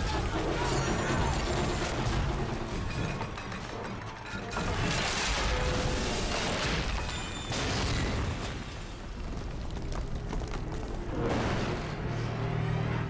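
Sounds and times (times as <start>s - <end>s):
debris blasting rumble: 0.0s - 12.4s
dramatic film score: 0.0s - 13.0s.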